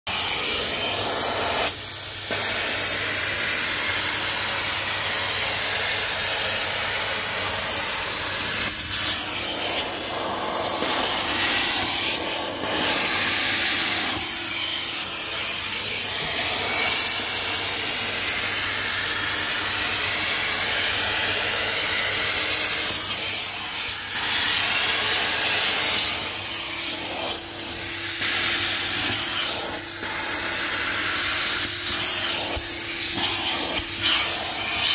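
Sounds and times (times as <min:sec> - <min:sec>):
carpet extractor suction hiss: 0:00.1 - 0:34.9.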